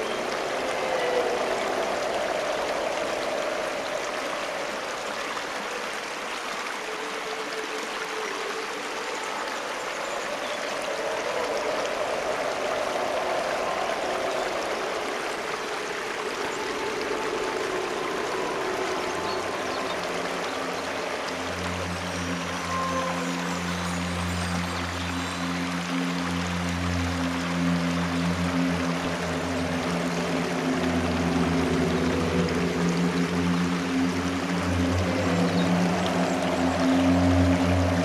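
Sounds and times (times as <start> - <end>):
aquarium water trickling: 7.3 - 38.0.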